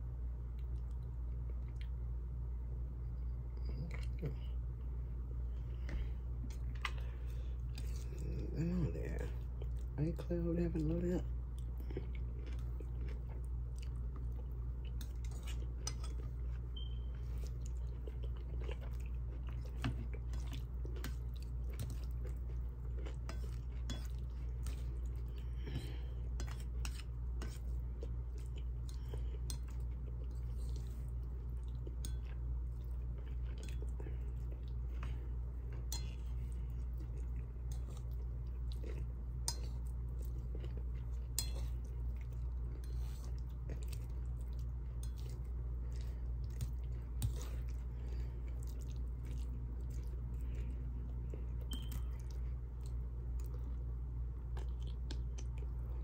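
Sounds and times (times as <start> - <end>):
steady low hum: 0.0 - 56.0
person chewing food: 0.5 - 2.1, 3.5 - 10.0, 11.0 - 56.0.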